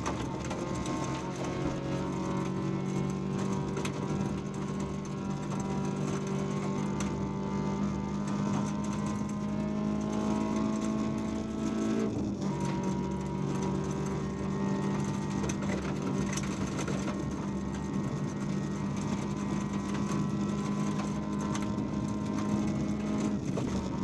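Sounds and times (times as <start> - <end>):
car engine at steady revs: 0.0 - 24.0
gravel striking car: 0.0 - 24.0.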